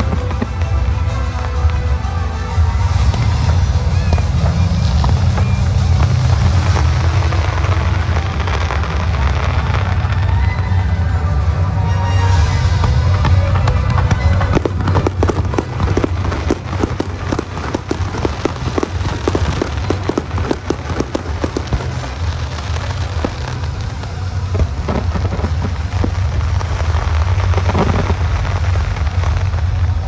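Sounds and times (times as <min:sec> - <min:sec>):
fireworks crackling and popping: 0:00.0 - 0:30.0
steady low rumble: 0:00.0 - 0:30.0.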